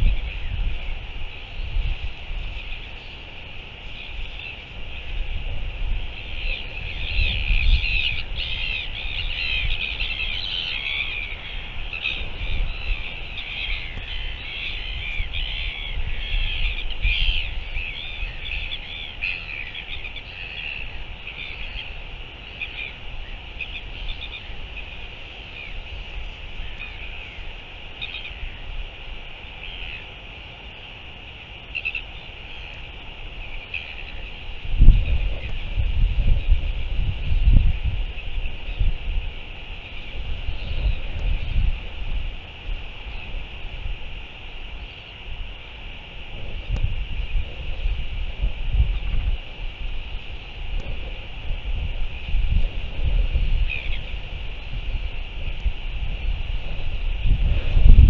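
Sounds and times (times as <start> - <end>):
birds chattering: 0.0 - 30.2, 31.6 - 49.4, 50.0 - 58.0
wind rumbling on microphone: 0.0 - 58.0.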